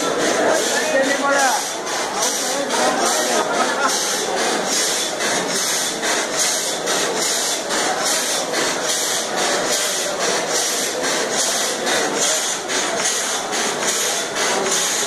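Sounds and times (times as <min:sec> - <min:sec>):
steam boiler plant rushing: 0:00.0 - 0:15.0.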